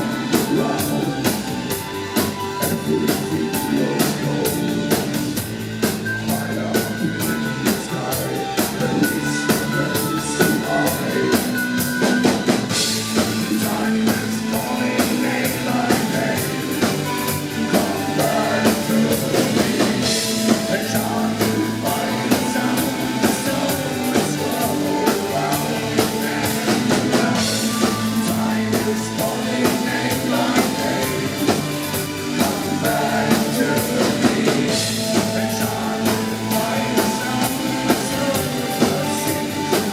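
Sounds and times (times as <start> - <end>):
person singing: 0.0 - 5.3, 6.2 - 11.6, 13.1 - 39.9
drums beating: 0.0 - 39.9
live band playing: 0.0 - 39.9.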